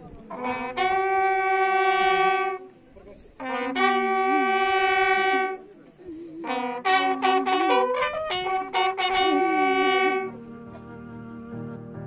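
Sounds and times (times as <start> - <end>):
bugle call: 0.3 - 2.7, 3.4 - 5.7, 6.4 - 11.5.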